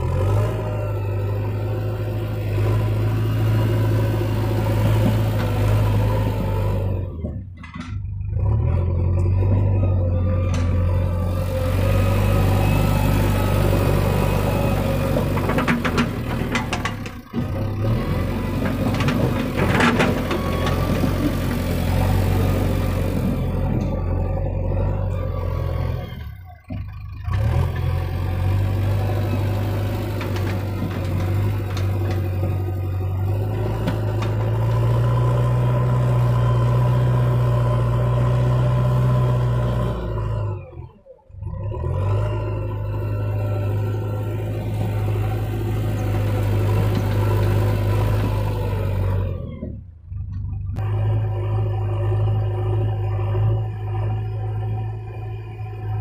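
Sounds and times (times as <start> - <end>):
diesel engine revving under load: 0.0 - 56.0.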